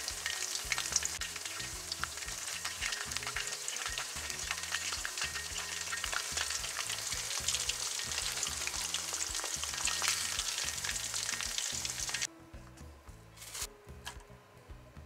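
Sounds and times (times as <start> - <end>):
chicken deep-frying in oil: 0.0 - 12.3.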